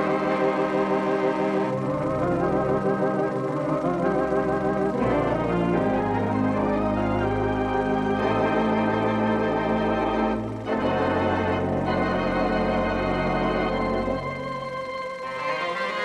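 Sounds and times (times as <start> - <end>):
organ chords: 0.0 - 16.0.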